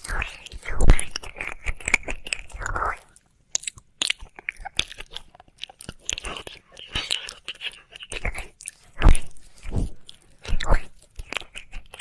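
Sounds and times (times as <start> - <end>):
wet mouth clicks: 0.0 - 12.0.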